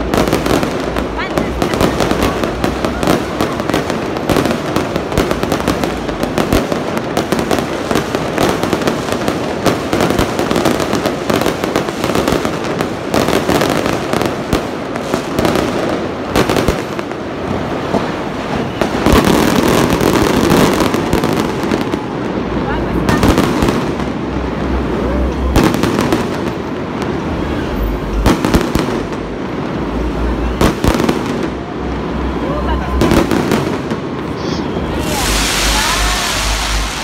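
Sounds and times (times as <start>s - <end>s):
fireworks bursting: 0.0s - 37.0s.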